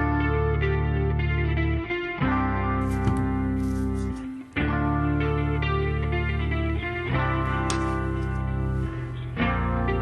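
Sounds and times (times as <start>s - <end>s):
held guitar chords: 0.0s - 10.0s.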